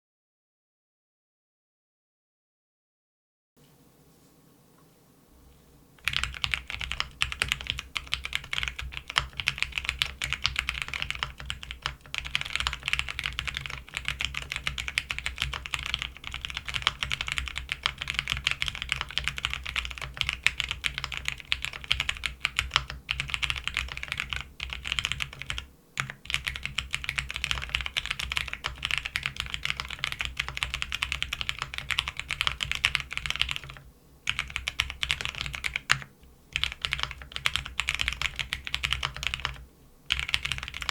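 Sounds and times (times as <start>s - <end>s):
mechanical keyboard typing: 6.0s - 40.9s.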